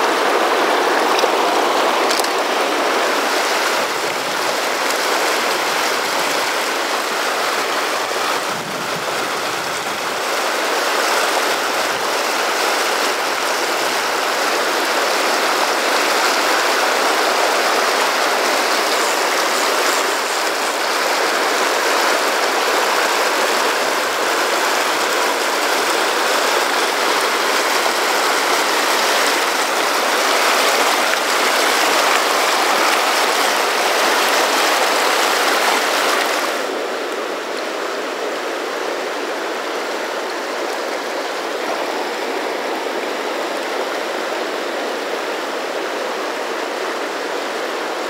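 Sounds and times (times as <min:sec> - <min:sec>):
river rushing over boulders: 0:00.0 - 0:48.0.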